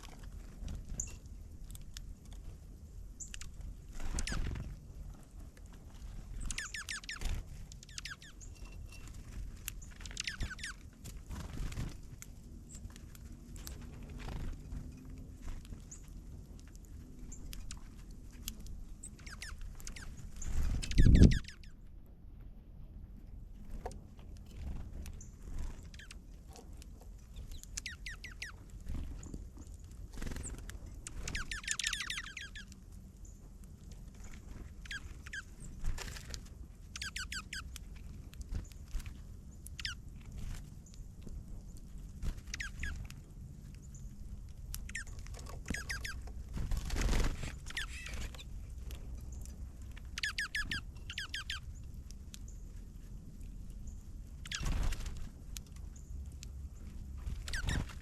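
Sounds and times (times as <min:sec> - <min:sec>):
small songbirds chirping: 0:00.0 - 0:21.9, 0:24.4 - 0:58.0
steady low rumble: 0:00.0 - 0:58.0.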